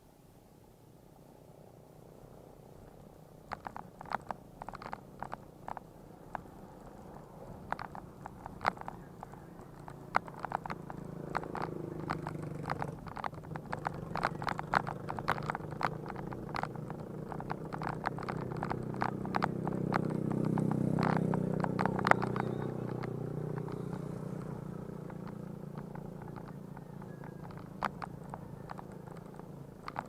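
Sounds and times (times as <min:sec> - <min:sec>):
bike clicking and rattling: 0:02.8 - 0:30.0.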